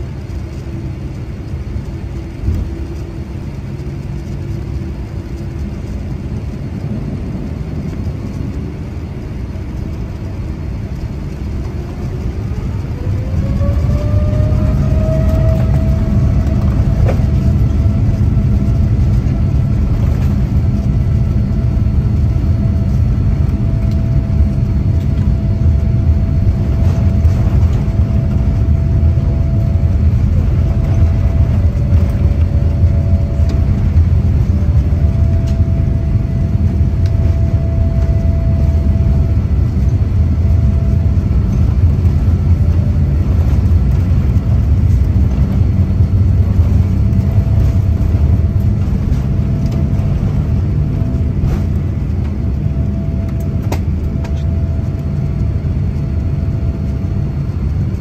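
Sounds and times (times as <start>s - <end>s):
faint wavering whine: 0.0s - 58.0s
jet engine rumble: 0.0s - 58.0s.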